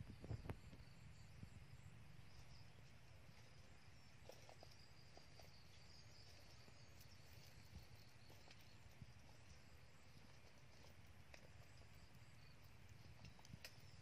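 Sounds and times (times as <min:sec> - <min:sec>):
faint high-pitched hum: 0:00.0 - 0:14.0.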